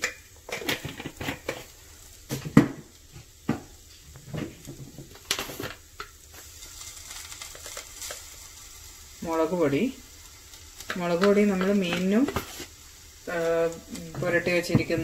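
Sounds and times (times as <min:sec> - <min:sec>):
faint food sizzling in a pot: 0:00.0 - 0:15.0.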